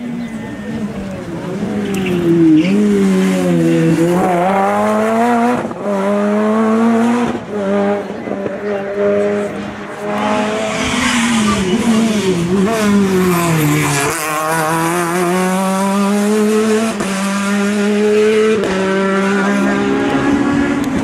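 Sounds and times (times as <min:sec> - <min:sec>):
rally car engine at high revs: 0:00.1 - 0:21.0.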